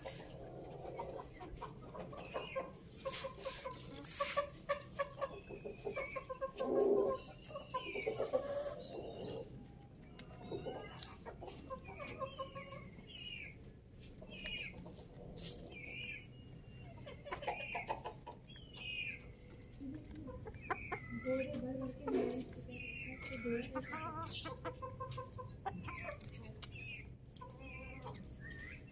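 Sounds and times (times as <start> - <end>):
beaks pecking on concrete: 0.0 - 28.9
hens clucking and calling: 0.0 - 28.9.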